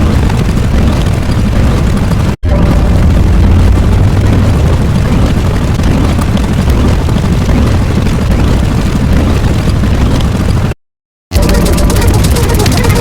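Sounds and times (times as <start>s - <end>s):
explosion-like low rumble: 0.0s - 10.8s.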